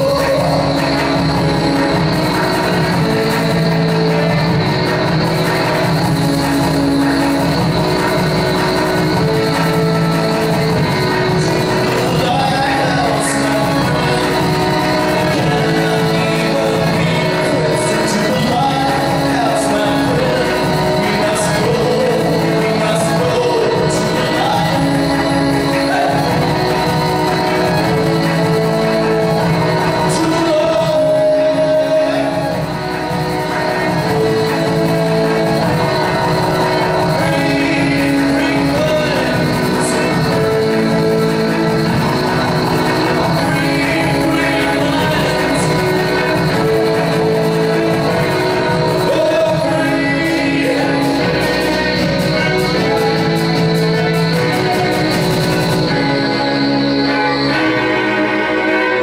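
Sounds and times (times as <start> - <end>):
steady lower accompaniment: 0.0 - 59.0
violins bowing long notes: 0.0 - 59.0.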